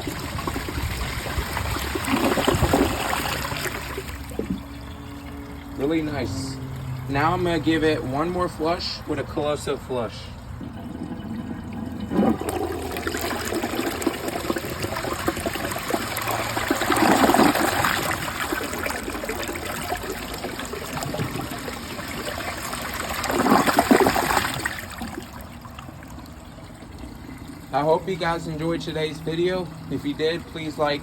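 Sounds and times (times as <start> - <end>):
toilet flushing: 0.0 - 31.0.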